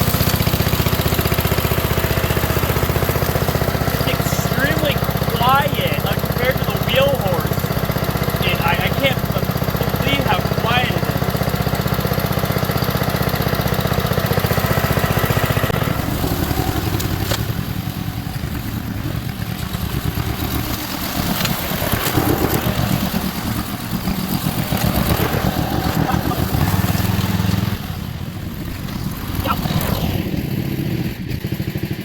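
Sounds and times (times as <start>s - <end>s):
garden tractor engine running: 0.0s - 32.0s.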